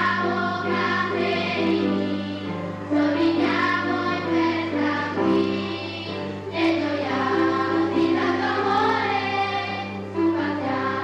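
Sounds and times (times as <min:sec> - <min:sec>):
children's choir singing: 0:00.0 - 0:11.0
piano accompaniment: 0:00.0 - 0:11.0.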